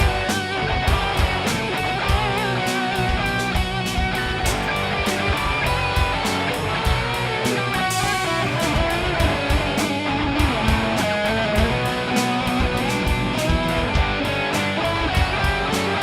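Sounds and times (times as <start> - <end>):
electric guitars: 0.0 - 16.0
steady drum beat: 0.0 - 16.0.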